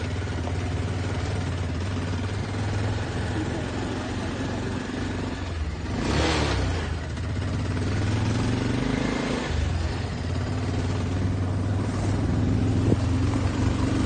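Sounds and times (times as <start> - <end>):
scooter engine humming: 0.0 - 14.0.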